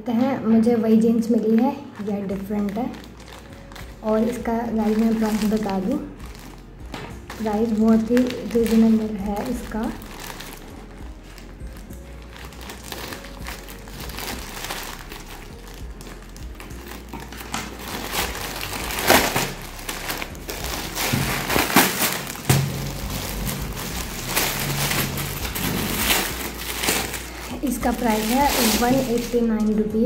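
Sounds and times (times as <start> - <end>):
plastic bag handled: 1.9 - 30.0
plastic mailer bag crinkling: 2.0 - 29.9
scissors cutting plastic: 2.6 - 29.8.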